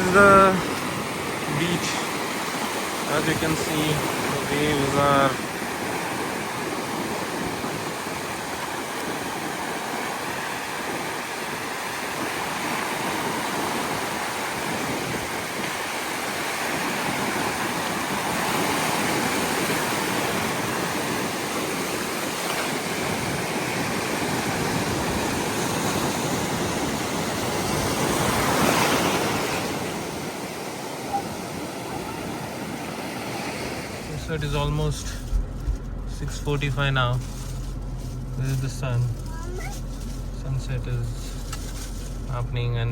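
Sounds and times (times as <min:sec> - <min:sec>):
ocean waves breaking on shore: 0:00.0 - 0:42.7.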